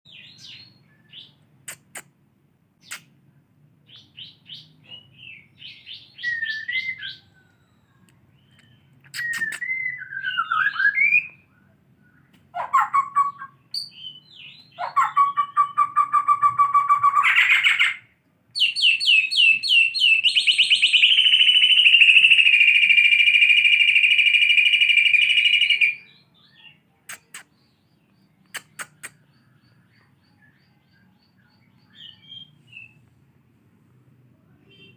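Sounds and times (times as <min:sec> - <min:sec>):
bird singing chirps and trills: 0:00.1 - 0:01.5, 0:03.9 - 0:18.0, 0:18.6 - 0:33.0.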